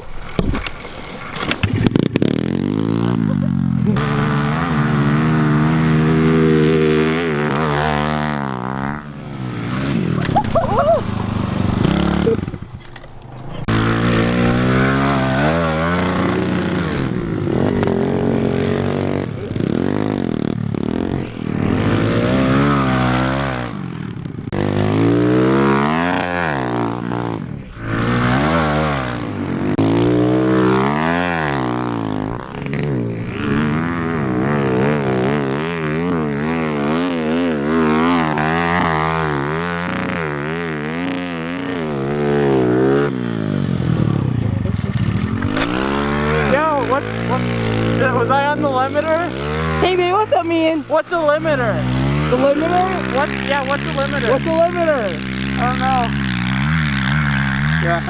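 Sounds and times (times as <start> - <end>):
pit bike engine revving: 1.4 - 58.0.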